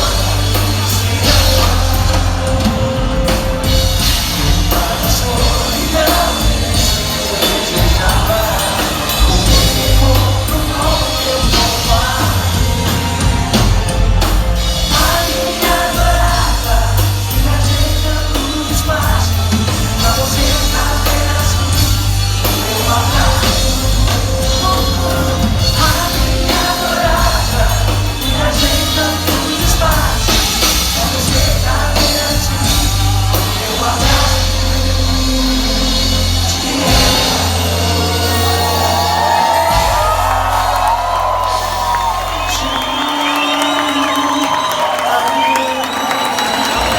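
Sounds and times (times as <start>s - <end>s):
lead vocal singing: 0.0s - 46.9s
live pop-rock band: 0.0s - 46.9s.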